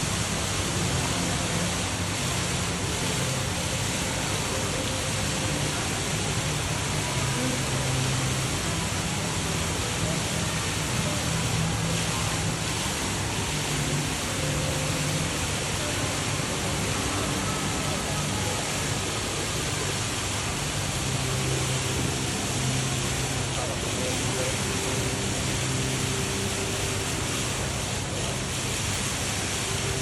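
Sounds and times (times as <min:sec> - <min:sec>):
rush of falling water: 0:00.0 - 0:30.0
murmur of voices: 0:00.1 - 0:30.0.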